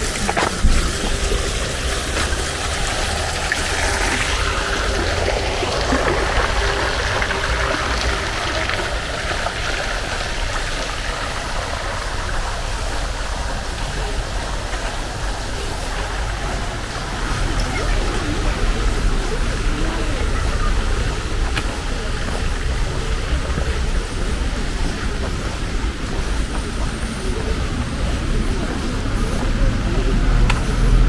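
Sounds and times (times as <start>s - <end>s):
rushing outdoor noise: 0.0s - 31.0s.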